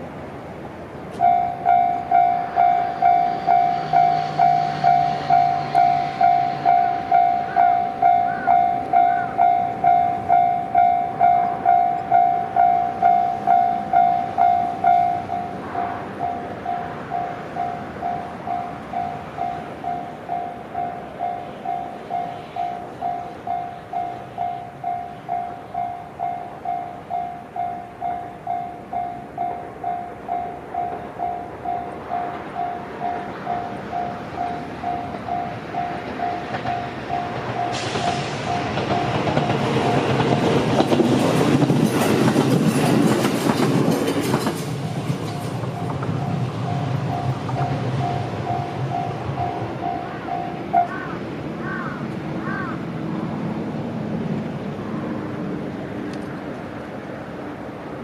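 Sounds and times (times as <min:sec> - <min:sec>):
level-crossing warning bell ringing: 0:01.1 - 0:51.3.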